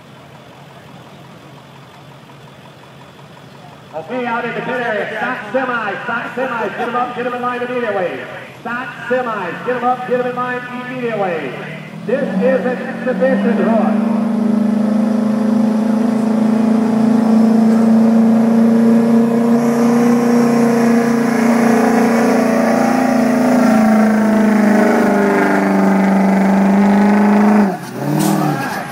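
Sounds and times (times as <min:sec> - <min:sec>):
diesel truck engine at high revs: 0:00.0 - 0:28.9.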